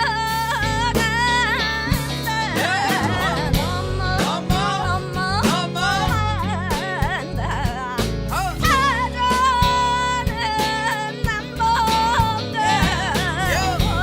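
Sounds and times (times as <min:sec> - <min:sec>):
song with guitar bass and beat: 0:00.0 - 0:14.0.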